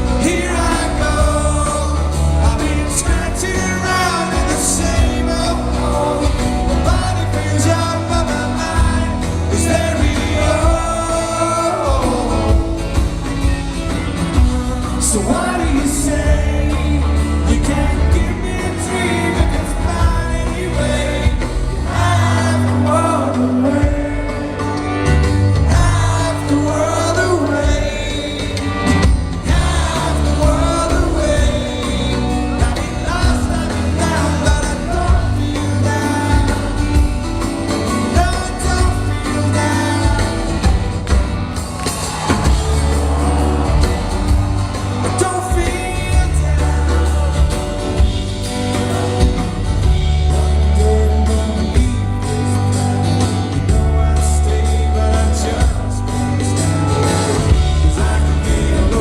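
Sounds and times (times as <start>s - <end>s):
man singing: 0.0s - 13.5s, 14.1s - 41.1s, 42.4s - 59.0s
guitar and bass: 0.0s - 59.0s.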